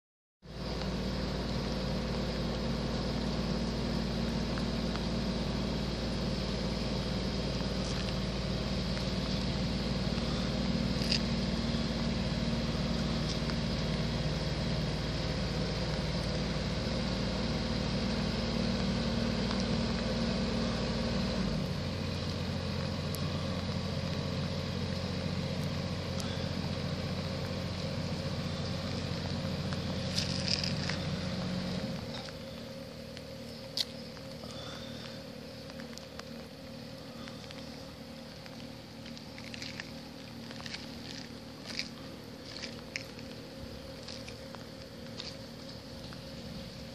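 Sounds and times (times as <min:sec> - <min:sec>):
diesel engines idling: 0:00.4 - 0:46.9.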